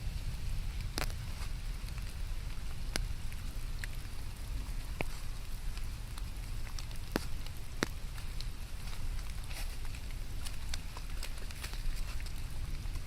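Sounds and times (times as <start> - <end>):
low rumble: 0.0 - 13.0
rain falling: 0.0 - 13.0
sharp ticks of raindrops: 0.0 - 13.0.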